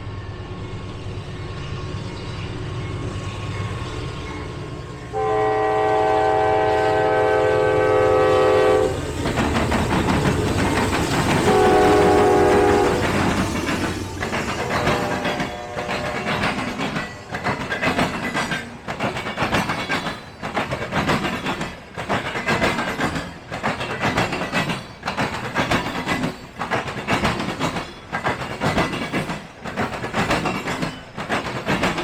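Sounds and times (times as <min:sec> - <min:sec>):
train wheels clacking on rails: 0:02.0 - 0:32.0.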